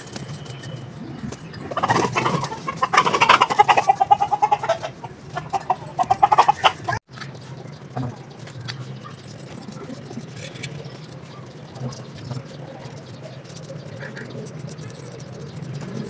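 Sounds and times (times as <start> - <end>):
chicken clucking: 0.6 - 16.0.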